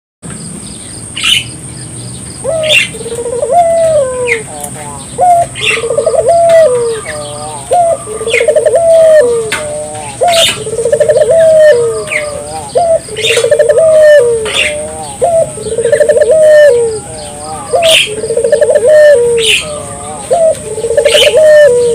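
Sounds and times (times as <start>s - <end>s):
dove cooing: 2.4s - 21.9s.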